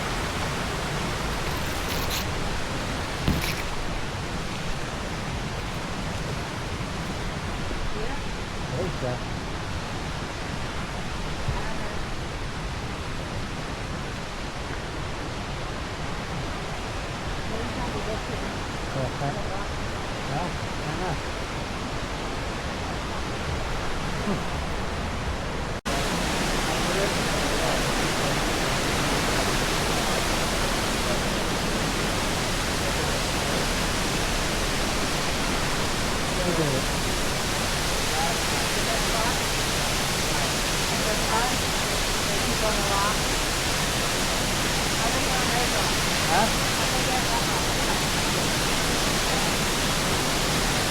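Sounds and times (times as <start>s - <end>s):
water rushing over rocks: 0.0s - 50.9s.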